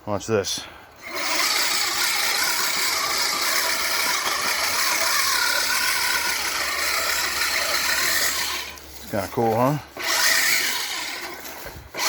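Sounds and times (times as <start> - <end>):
reel mower rattling on grass: 1.0 - 12.0.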